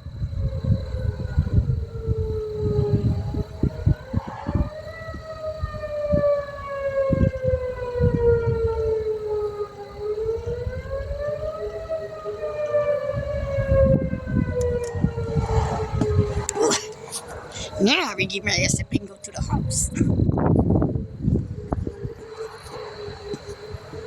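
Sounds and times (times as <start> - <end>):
low gusty rumbling: 0.0 - 24.0
tornado warning siren wailing: 0.0 - 24.0.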